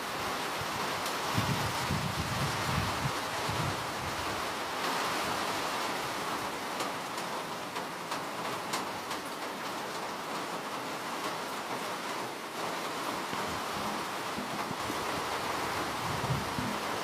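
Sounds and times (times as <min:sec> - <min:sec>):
rain drops ticking: 0:00.0 - 0:17.0
steady rain falling: 0:00.0 - 0:17.0.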